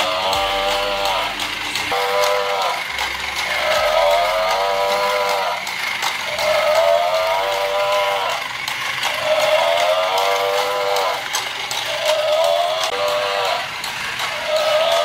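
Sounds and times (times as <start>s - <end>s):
toy mechanism clicking: 0.0s - 15.0s.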